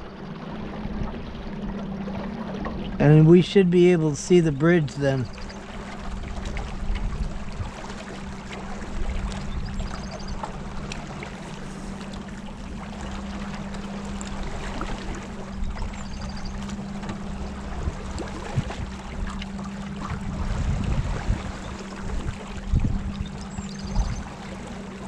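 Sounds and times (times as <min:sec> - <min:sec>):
steady low hum: 0:00.0 - 0:25.0
water rushing along a hull: 0:00.0 - 0:25.0.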